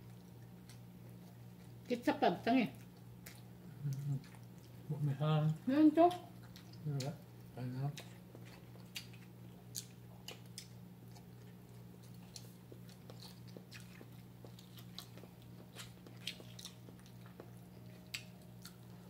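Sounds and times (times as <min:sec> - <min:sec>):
chewing and mouth smacks: 0:00.0 - 0:01.9, 0:02.7 - 0:04.8, 0:06.1 - 0:19.0.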